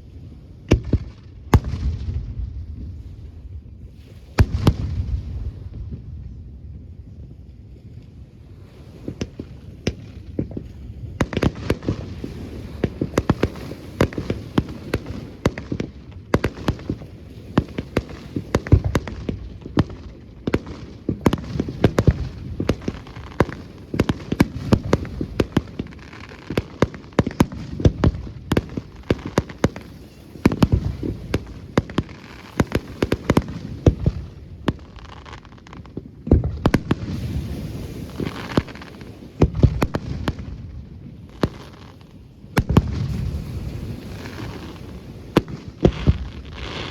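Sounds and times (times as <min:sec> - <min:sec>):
fireworks booms: 0:00.7 - 0:03.6, 0:04.4 - 0:06.6, 0:09.1 - 0:46.9
fireworks bangs and crackling: 0:00.7 - 0:06.4, 0:09.0 - 0:46.9.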